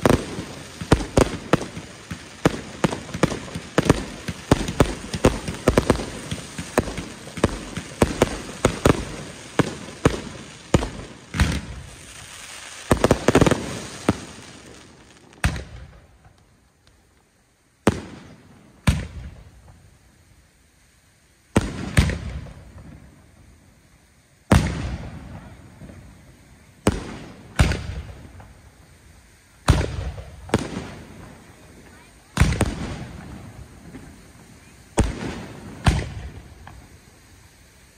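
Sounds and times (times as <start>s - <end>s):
loud firework booms: 0.0s - 16.3s, 17.8s - 19.8s, 21.5s - 23.1s, 24.5s - 26.2s, 26.8s - 28.6s, 29.6s - 37.1s
firework bangs and crackles: 0.0s - 37.9s.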